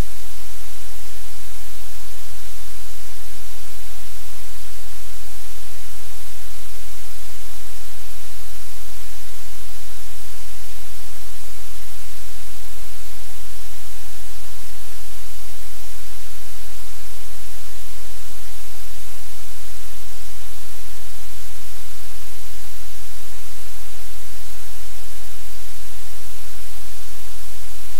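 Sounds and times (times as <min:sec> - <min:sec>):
static hiss: 0:00.0 - 0:27.9.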